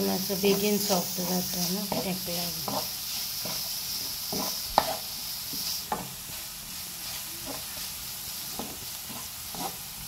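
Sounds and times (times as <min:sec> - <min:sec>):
onion sizzling in frying pan: 0:00.0 - 0:10.0
wooden spatula scraping pan: 0:00.5 - 0:09.9.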